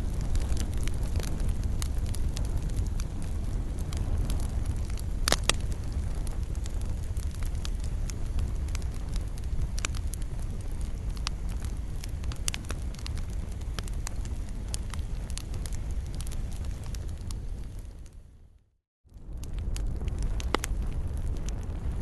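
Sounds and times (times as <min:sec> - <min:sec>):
fire crackling and popping: 0:00.0 - 0:22.0
fire low rumble: 0:00.0 - 0:22.0.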